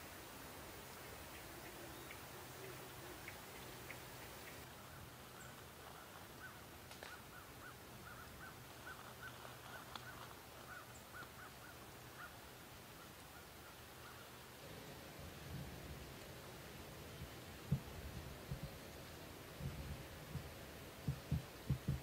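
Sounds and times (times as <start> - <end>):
faint low hum: 0.0 - 22.0
distant bird calls: 0.8 - 14.4, 16.0 - 22.0.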